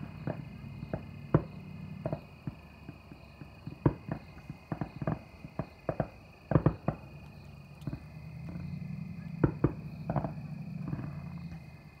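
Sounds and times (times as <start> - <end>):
distant fireworks bangs and pops: 0.0 - 12.0.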